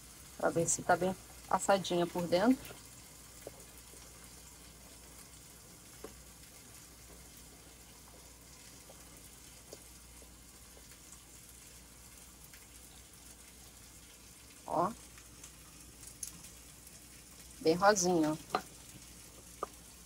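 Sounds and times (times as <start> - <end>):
sausages sizzling in a pan: 0.0 - 20.0.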